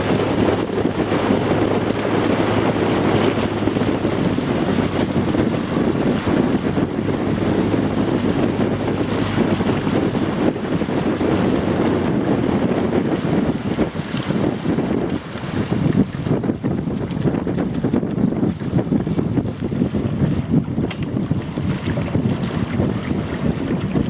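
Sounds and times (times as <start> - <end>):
rushing water: 0.0 - 24.0
wind buffeting microphone: 0.0 - 24.0.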